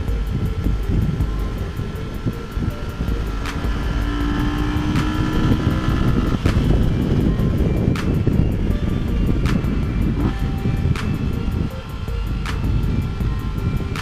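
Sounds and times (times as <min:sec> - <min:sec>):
motorcycle engine: 0:00.0 - 0:11.5
wind rumbling on microphone: 0:00.0 - 0:14.0.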